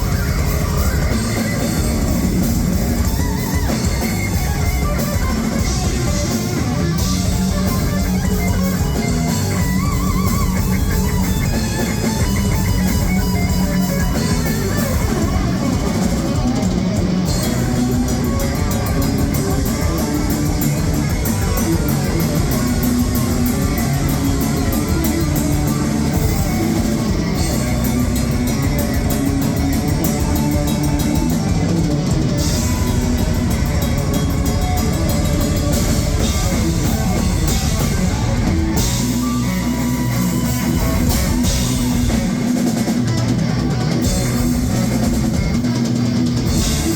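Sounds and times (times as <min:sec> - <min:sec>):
cymbals ticking rapidly: 0:00.0 - 0:46.9
heavy metal band playing: 0:00.0 - 0:46.9.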